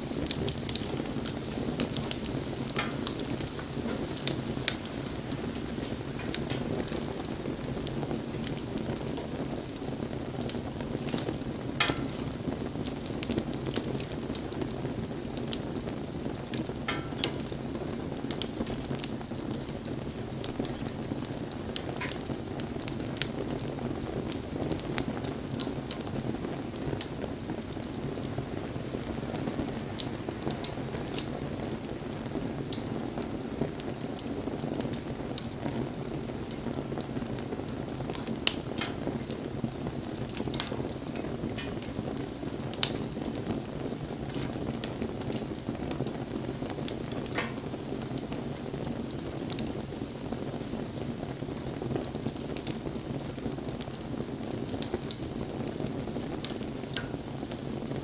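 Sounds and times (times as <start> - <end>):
bonfire flames rushing: 0.0 - 58.0
fire crackling and popping: 0.0 - 58.0.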